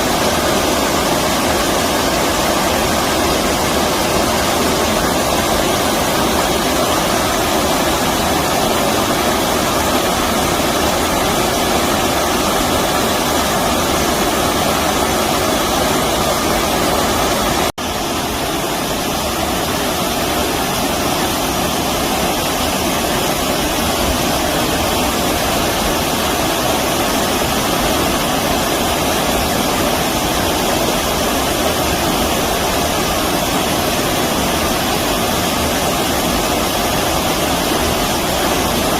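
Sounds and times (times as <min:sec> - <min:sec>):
stream water rushing over rapids: 0:00.0 - 0:38.9.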